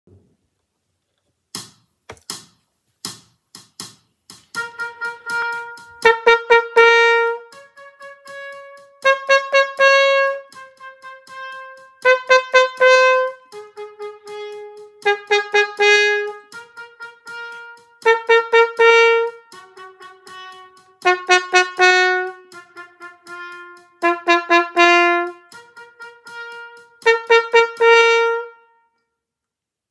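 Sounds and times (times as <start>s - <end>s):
click beat: 1.5s - 28.4s
backing track phrases: 1.5s - 28.7s
trumpet playing: 4.6s - 29.0s.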